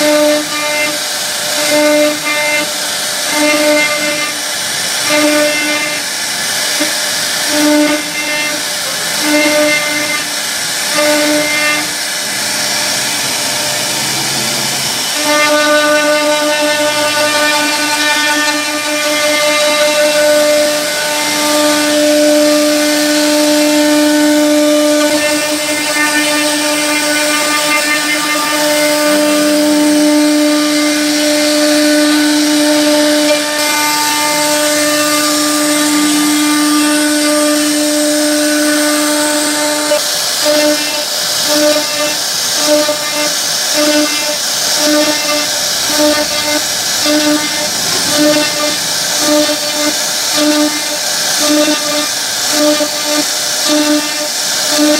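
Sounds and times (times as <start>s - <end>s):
router bit carving wood: 0.0s - 54.9s
router spindle whining: 0.0s - 54.9s.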